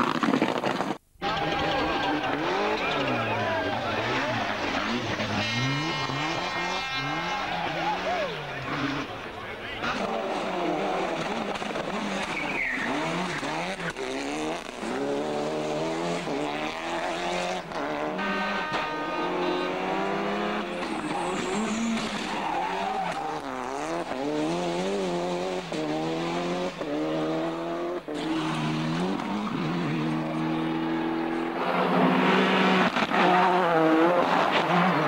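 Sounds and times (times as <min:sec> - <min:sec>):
rally car engines at full throttle: 0:00.0 - 0:35.0.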